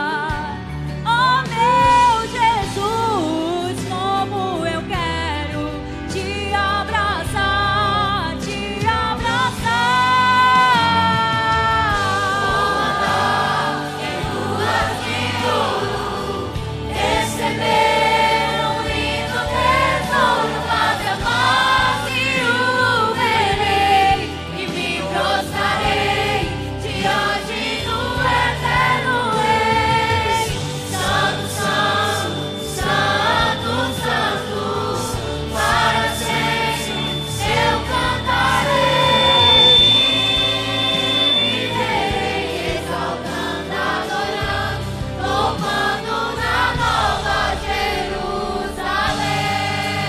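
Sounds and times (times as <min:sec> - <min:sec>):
choir singing worship song: 0:00.0 - 0:50.0
musical accompaniment: 0:00.0 - 0:50.0.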